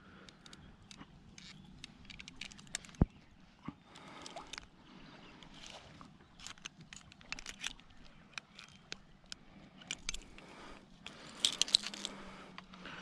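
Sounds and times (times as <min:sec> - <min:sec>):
clicks and taps handling fish: 0:00.2 - 0:04.7, 0:05.4 - 0:12.8.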